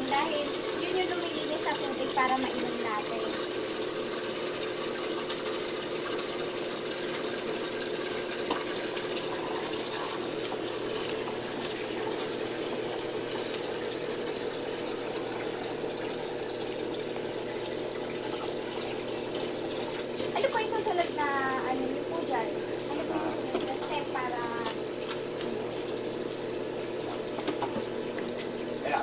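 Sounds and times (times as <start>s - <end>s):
electric water pump hum: 0.0s - 29.0s
water running into bucket: 0.0s - 29.0s.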